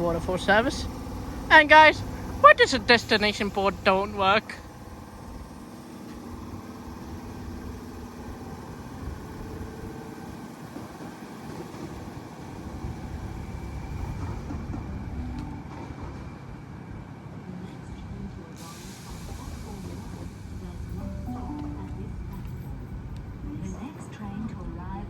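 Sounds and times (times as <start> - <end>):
electric train pulling away: 0.0 - 17.2, 18.6 - 25.0.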